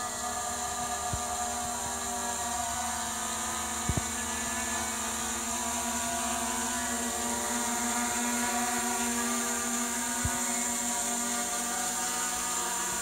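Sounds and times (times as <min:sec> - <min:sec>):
quadcopter propellers humming: 0:00.0 - 0:13.0.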